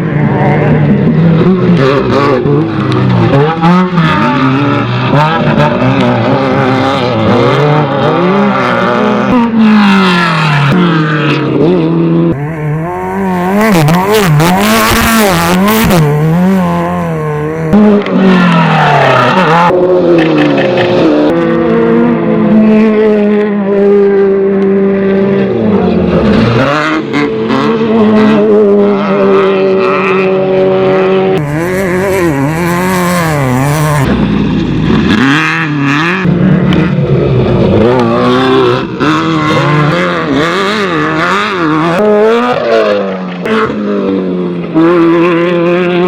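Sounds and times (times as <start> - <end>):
race vehicle engines revving: 0.0 - 46.0.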